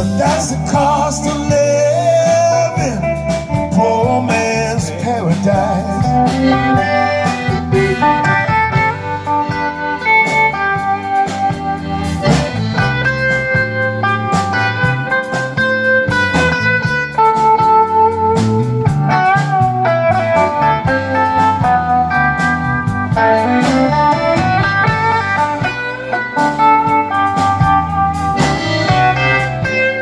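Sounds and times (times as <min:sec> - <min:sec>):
live blues band playing: 0:00.0 - 0:30.0.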